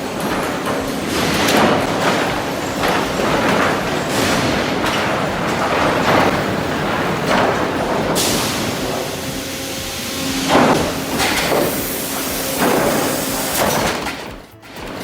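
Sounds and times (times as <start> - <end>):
boards rattling and knocking: 0.0 - 15.0
mill machinery rumble: 0.0 - 15.0.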